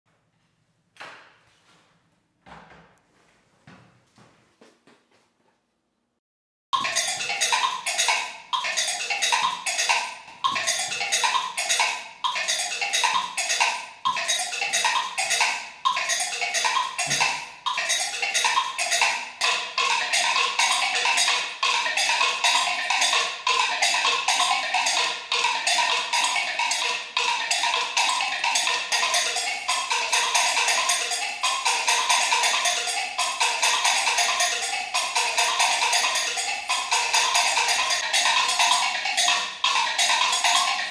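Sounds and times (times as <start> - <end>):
robotic percussion on blocks and bells: 6.8 - 40.9.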